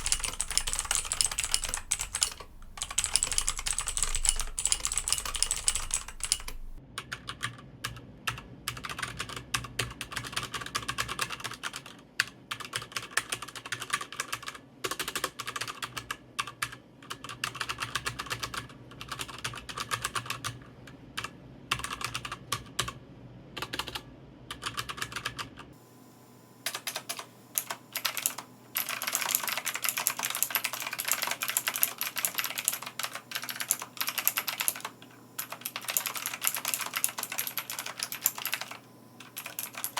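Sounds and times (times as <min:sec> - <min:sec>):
brighter mechanical keyboard clicks: 0:00.0 - 0:23.0, 0:23.6 - 0:25.6, 0:26.7 - 0:39.9
mechanical keyboard typing: 0:00.0 - 0:23.0, 0:23.6 - 0:25.7, 0:26.7 - 0:39.9.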